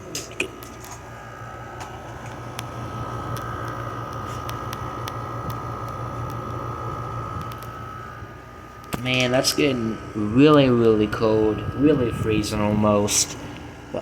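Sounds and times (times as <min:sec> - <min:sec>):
air conditioner hum and fan: 0:00.0 - 0:14.0
compressor whine: 0:00.0 - 0:14.0.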